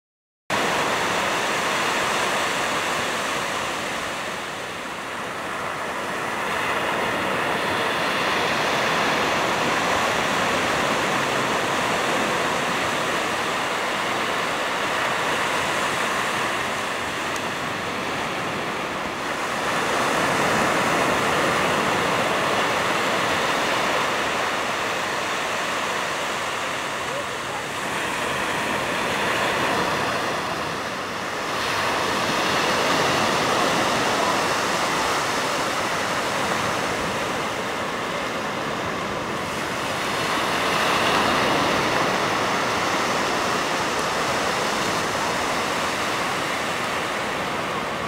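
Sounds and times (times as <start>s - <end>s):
ocean surf washing on beach: 0.5s - 48.0s.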